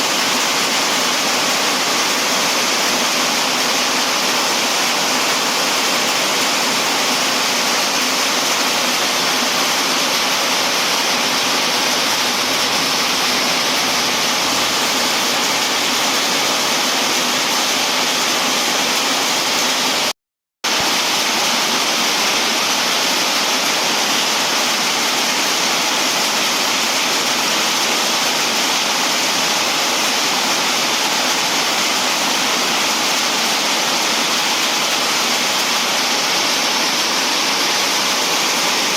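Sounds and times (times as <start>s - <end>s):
heavy rain falling: 0.0s - 20.1s, 20.7s - 38.9s.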